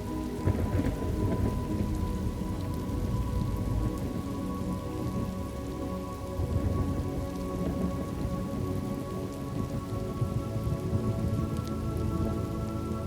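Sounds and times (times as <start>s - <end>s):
faint held music tones: 0.0s - 13.0s
low rumble: 0.0s - 13.0s
steady rain: 0.0s - 13.0s.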